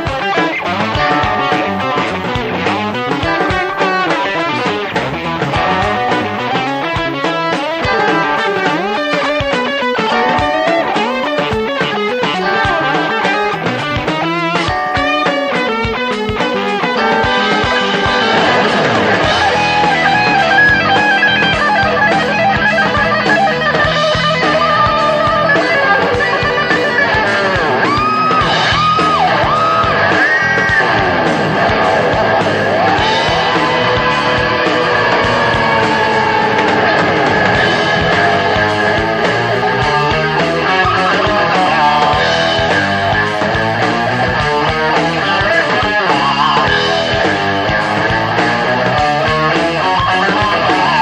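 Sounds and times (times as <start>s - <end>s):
electric guitar lead: 0.0s - 51.0s
rock band playing: 0.0s - 51.0s.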